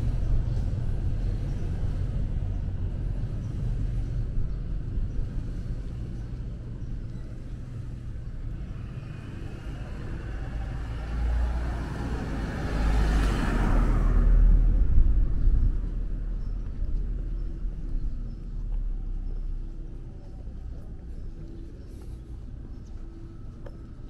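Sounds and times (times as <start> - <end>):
road vehicle passing: 0.0 - 6.7, 7.6 - 24.0.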